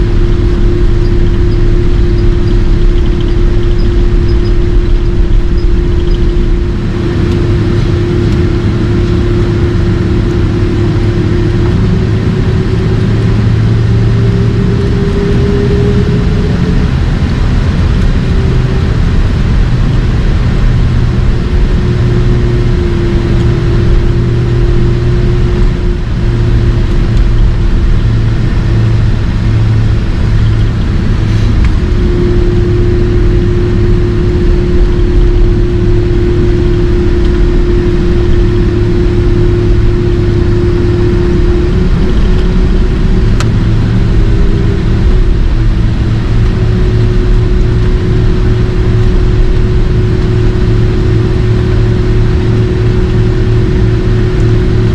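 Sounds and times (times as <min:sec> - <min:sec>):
jet cabin engine rumble: 0:00.0 - 0:54.9
mid-pitched drone: 0:00.0 - 0:54.9.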